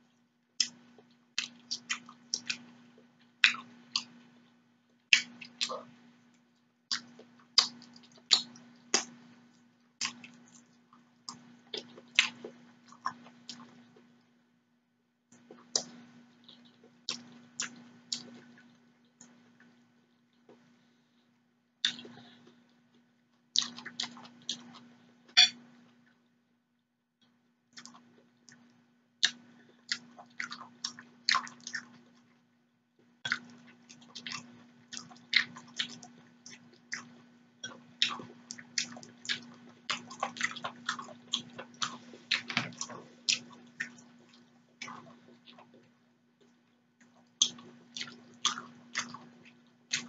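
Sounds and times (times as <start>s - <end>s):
close chewing and mouth noises: 0.0s - 14.3s, 15.3s - 26.3s, 27.2s - 50.0s.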